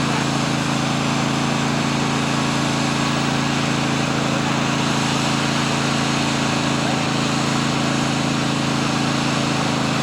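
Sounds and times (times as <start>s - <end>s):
riding lawn mower engine running: 0.0s - 10.0s.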